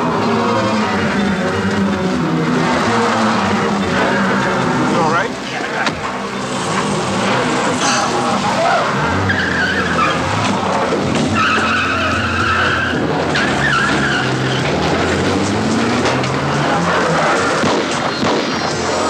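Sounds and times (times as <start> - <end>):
car engine running: 0.0 - 19.0
tyres squealing: 0.4 - 19.0.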